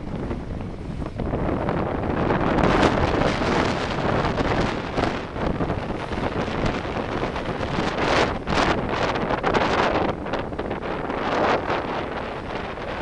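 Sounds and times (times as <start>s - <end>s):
road and vehicle noise: 0.0s - 13.0s
wind buffeting microphone: 0.0s - 13.0s.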